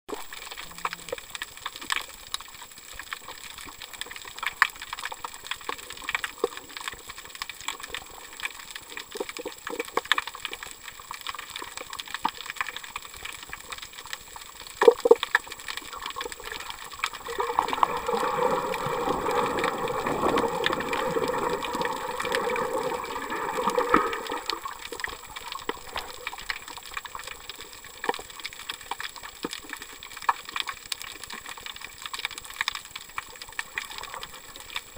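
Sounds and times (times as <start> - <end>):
underwater clicks and crackles: 0.1 - 34.9
underwater rushing noise: 0.1 - 34.9.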